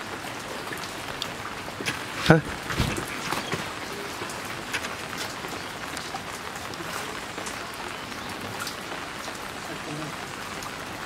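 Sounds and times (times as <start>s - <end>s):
steady rain: 0.0s - 11.0s
raindrop ticks: 0.3s - 10.9s.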